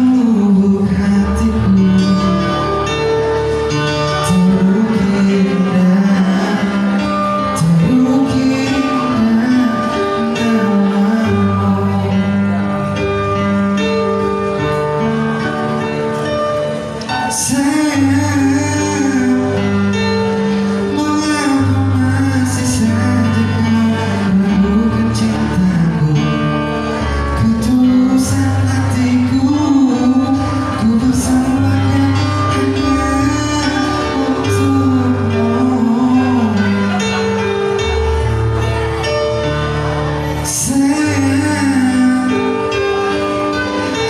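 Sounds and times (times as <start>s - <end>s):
sustained bass notes and chords: 0.0s - 44.0s.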